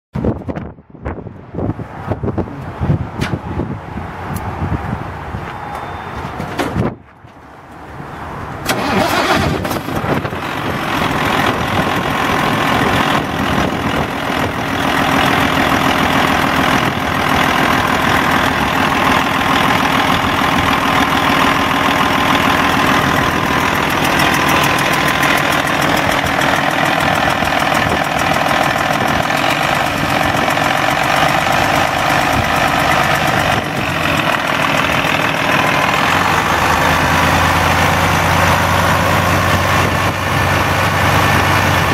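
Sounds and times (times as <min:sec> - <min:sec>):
diesel engine starting and idling: 0:08.3 - 0:41.9.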